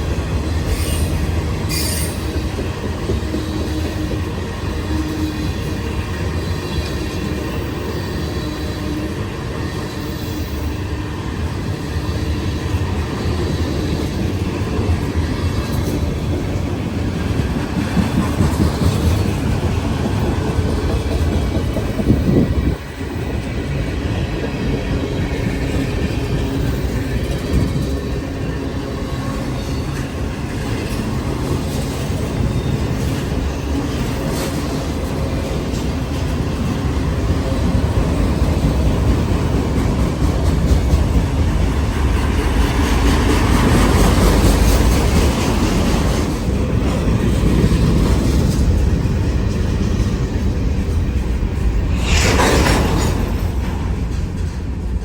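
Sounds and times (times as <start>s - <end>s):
train rumbling on tracks: 0.0s - 55.0s.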